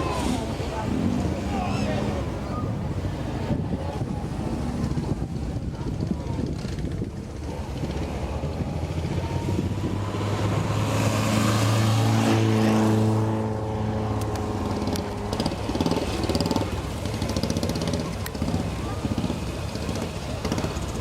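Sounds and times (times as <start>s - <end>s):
car engine passing under load: 0.0s - 21.0s.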